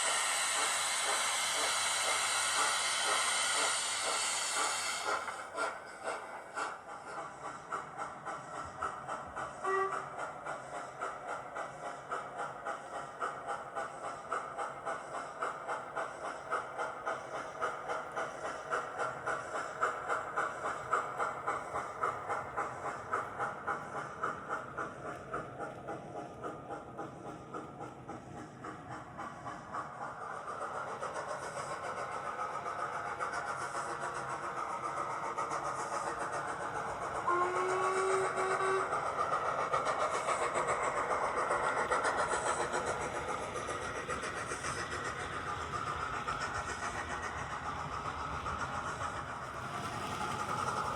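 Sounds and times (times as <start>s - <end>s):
model steam locomotive chuffing: 0.0s - 50.9s.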